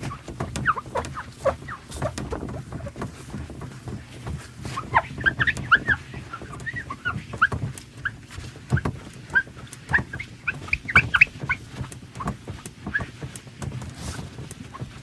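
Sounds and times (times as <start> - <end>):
paper towel squeaking on glass: 0.0 - 13.4, 14.0 - 15.0.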